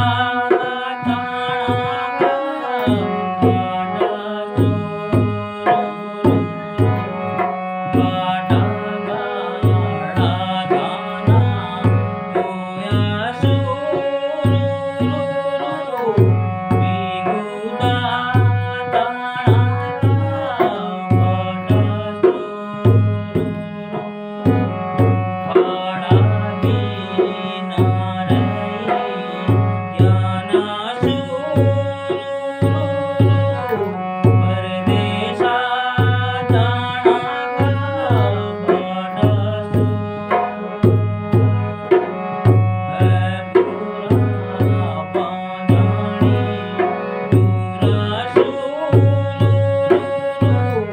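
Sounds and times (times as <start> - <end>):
harmonium folk melody: 0.0 - 50.9
man singing: 0.0 - 50.9
tabla drum beat: 0.0 - 50.9.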